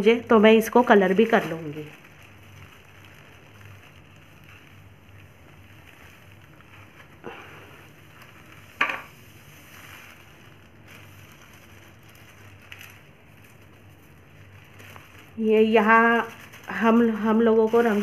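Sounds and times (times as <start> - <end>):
plastic bag rustling: 0.0 - 18.0
powder poured into plastic tub: 1.3 - 18.0.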